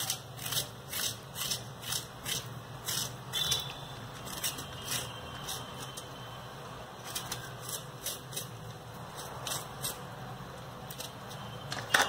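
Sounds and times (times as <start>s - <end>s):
knife scraping vegetable skin: 0.0s - 6.3s, 7.0s - 11.7s.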